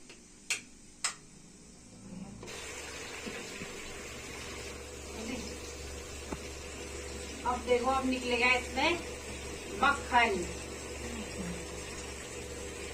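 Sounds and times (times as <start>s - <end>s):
electric mixer motor humming: 2.5s - 12.9s.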